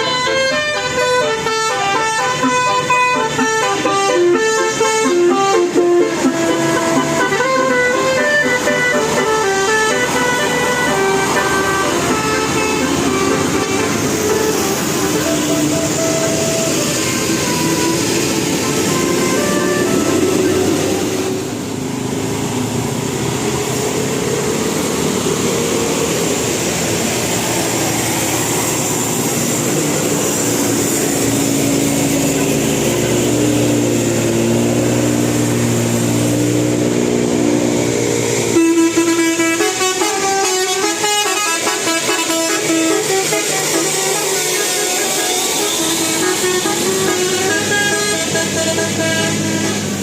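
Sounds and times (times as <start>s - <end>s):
musical bus horn playing a tune: 0.0s - 21.8s, 25.7s - 50.0s
steady vehicle noise: 0.0s - 50.0s.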